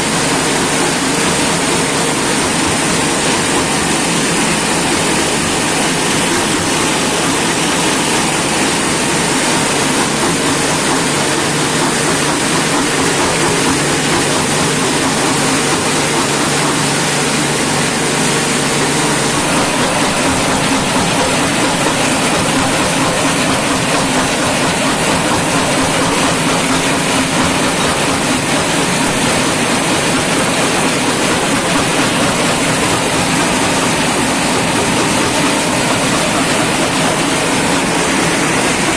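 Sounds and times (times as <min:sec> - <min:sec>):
jaw crusher mechanical din: 0:01.0 - 0:38.9.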